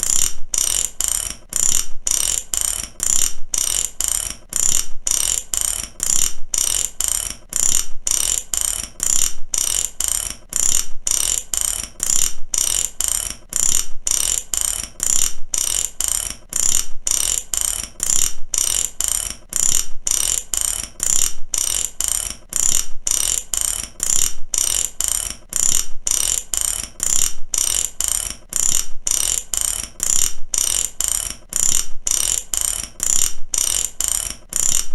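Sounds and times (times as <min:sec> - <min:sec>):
ratchet wrench clicking: 0:00.0 - 0:34.9.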